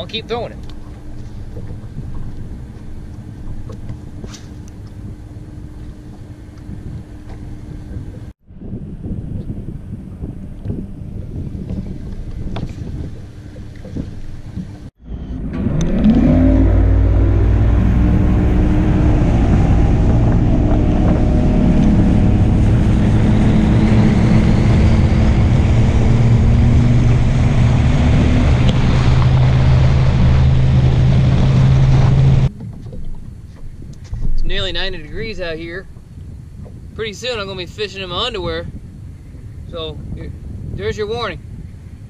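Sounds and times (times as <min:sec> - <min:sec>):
hull and wind noise: 0:00.0 - 0:42.0
outboard motor speeding up: 0:00.0 - 0:42.0
wind on microphone: 0:00.0 - 0:42.0.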